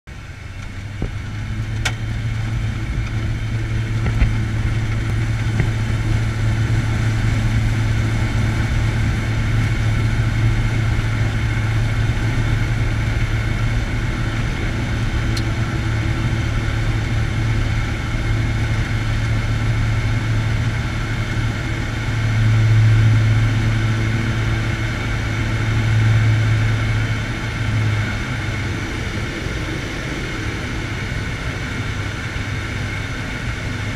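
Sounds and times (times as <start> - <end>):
turboprop engine and propeller drone: 0.0 - 33.9.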